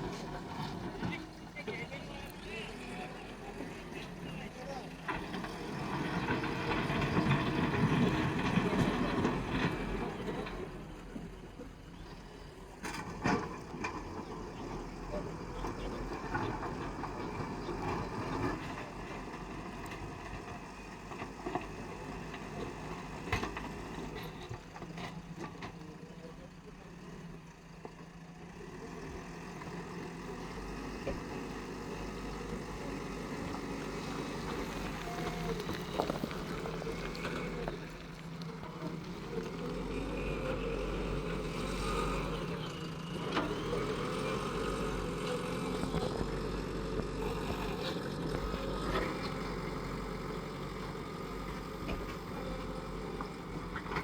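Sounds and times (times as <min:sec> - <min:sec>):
earthmoving machine diesel engine: 0:00.0 - 0:54.0.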